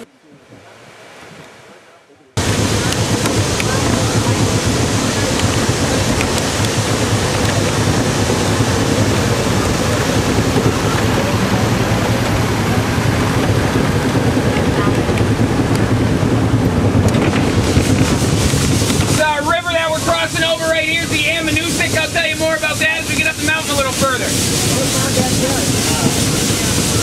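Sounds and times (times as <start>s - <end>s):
train rumbling: 2.4s - 27.0s.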